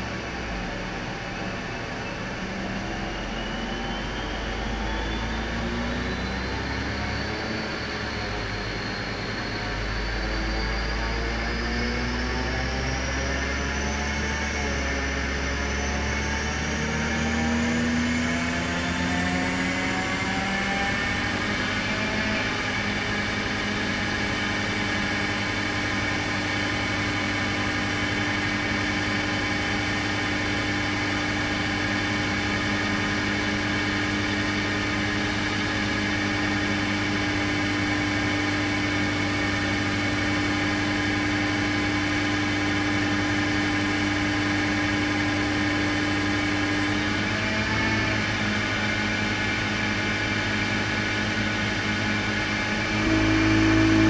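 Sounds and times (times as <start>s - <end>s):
car engine and exhaust running: 0.0s - 54.0s.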